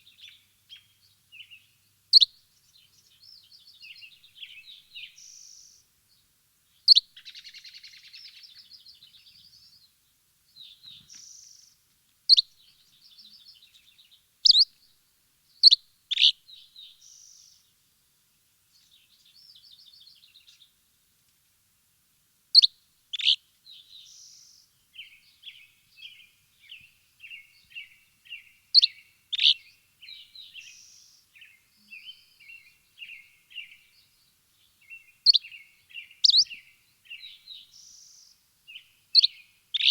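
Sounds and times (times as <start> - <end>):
songbirds chirping: 0.0 - 21.9, 22.5 - 39.9.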